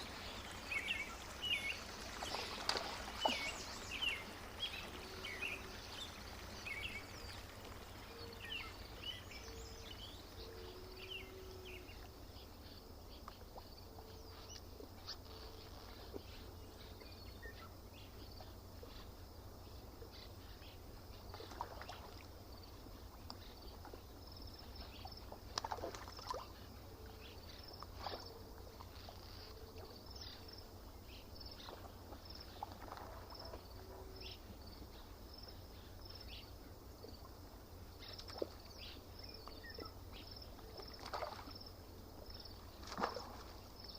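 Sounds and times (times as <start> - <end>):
faint water splashes: 0.0 - 43.9.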